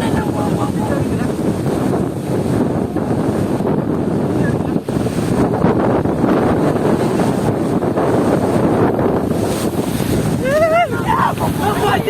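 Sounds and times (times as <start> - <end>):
ocean surf on beach: 0.0 - 12.0
wind buffeting microphone: 0.0 - 12.0.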